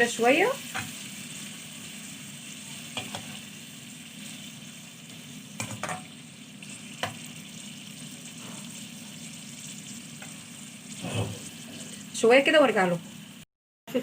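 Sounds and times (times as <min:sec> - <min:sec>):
chicken sizzling in a pan: 0:00.0 - 0:13.4.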